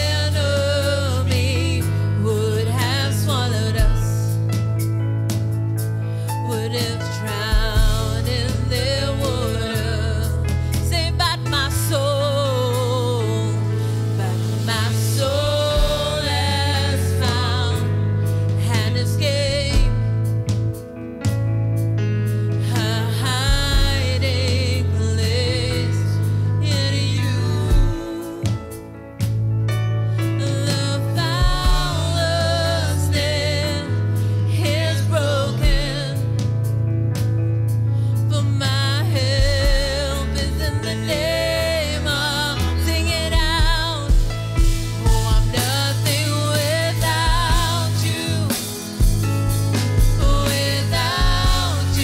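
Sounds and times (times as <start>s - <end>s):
person singing with vibrato: 0.0s - 4.4s, 6.1s - 20.3s, 22.6s - 28.9s, 30.2s - 36.5s, 38.3s - 52.0s
steady bass line: 0.0s - 52.0s.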